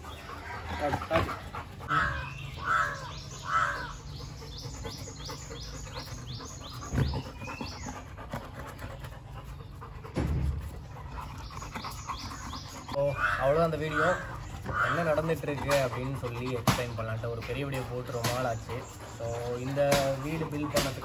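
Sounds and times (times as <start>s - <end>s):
dogs whining: 0.0s - 10.2s, 10.8s - 21.0s.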